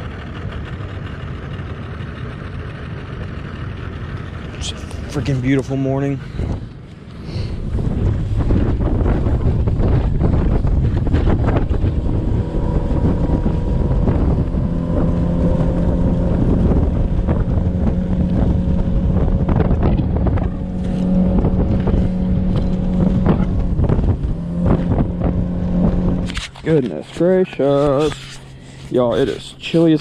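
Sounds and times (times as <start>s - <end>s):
outboard motor running: 0.0s - 30.0s
wind on microphone: 4.6s - 30.0s.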